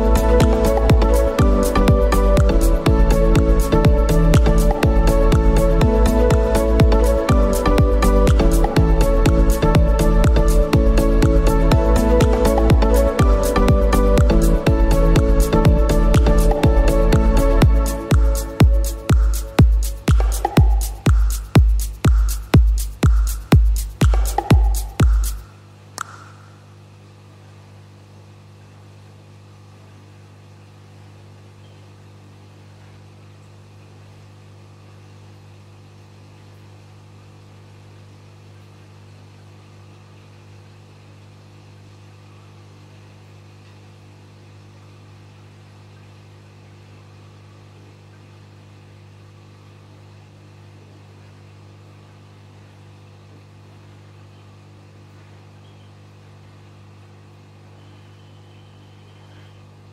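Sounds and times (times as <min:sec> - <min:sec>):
aquarium pump humming: 0:00.0 - 0:59.9.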